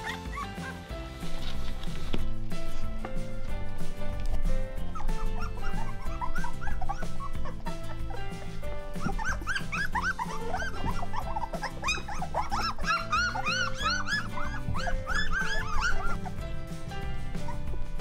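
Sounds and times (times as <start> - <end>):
background music: 0.0 - 18.0
puppies whimpering and squeaking: 0.0 - 18.0.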